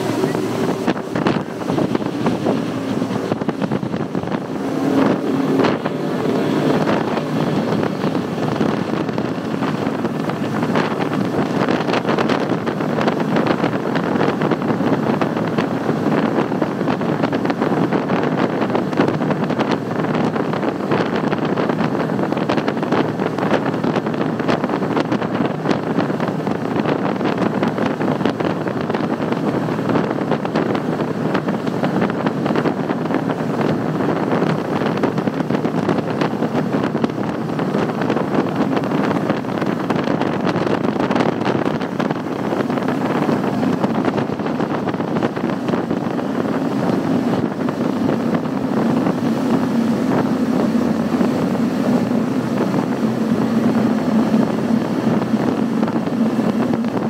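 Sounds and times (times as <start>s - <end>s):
outboard engines running: 0.0s - 57.0s
rushing water: 0.0s - 57.0s
wind on microphone: 0.0s - 57.0s.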